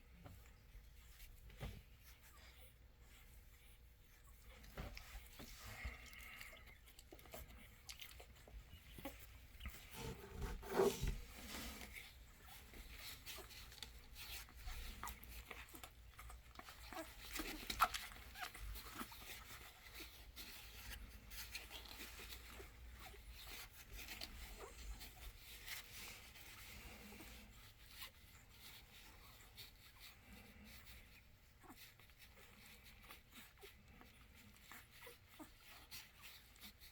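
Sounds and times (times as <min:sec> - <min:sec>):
puppies suckling smacks: 0:00.0 - 0:36.9
shuffling: 0:00.0 - 0:36.9.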